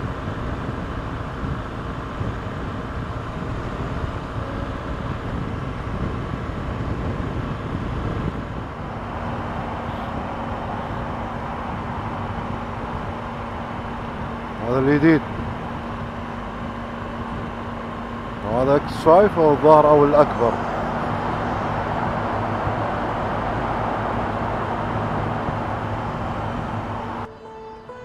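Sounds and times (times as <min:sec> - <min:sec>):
wind noise: 0:00.0 - 0:27.3
motorcycle engine cruising: 0:00.0 - 0:28.0.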